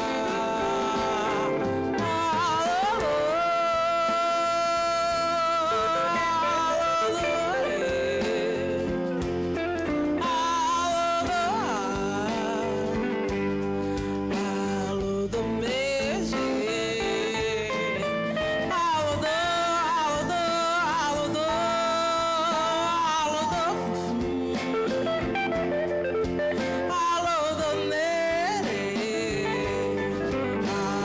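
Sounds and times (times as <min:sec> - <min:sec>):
clean electric guitar: 0:00.0 - 0:31.0
woman singing with vibrato: 0:00.0 - 0:31.0.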